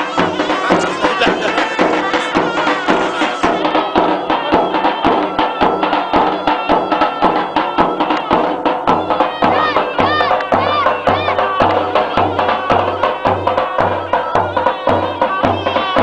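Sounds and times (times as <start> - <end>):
drum beating steady rhythm: 0.0 - 16.0
reedy wind instrument melody: 0.0 - 16.0.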